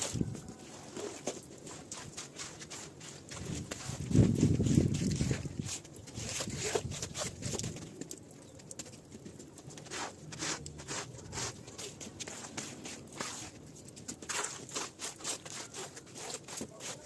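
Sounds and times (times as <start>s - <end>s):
brush scraping wet rug: 0.0s - 7.7s, 9.7s - 17.0s.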